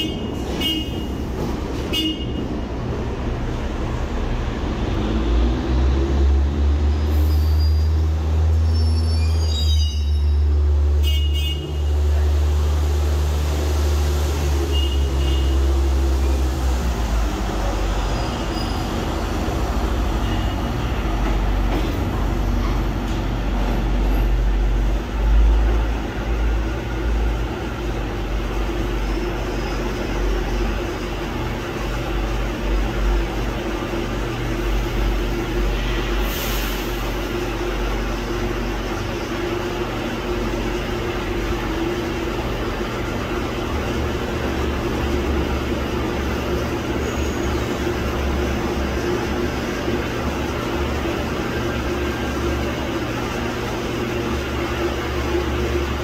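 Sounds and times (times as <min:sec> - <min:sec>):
rail car wheels rumbling: 0:00.0 - 0:56.0.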